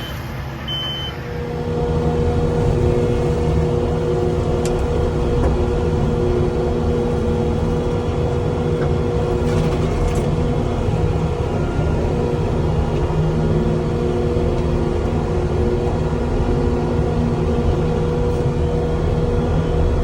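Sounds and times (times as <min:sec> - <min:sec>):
skid steer engine drone: 0:00.0 - 0:20.0.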